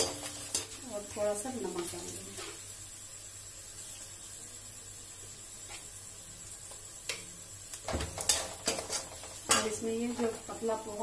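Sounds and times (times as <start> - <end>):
chillies sizzling in oil: 0.0 - 11.0.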